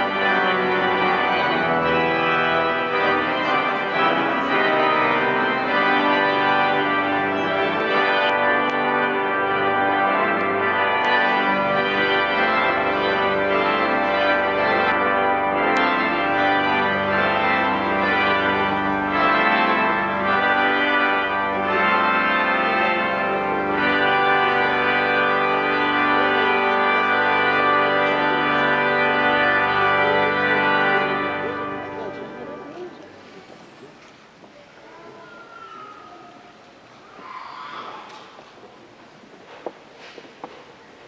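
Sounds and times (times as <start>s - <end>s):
organ playing sustained chords: 0.0s - 34.4s.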